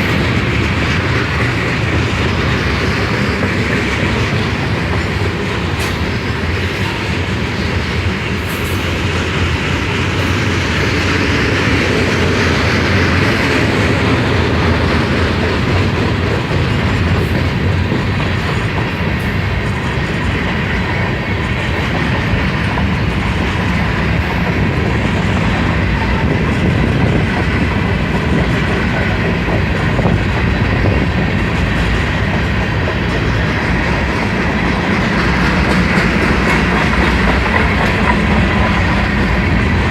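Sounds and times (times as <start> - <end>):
freight train rolling past: 0.0 - 39.9
wheels clacking over rail joints: 0.0 - 39.9.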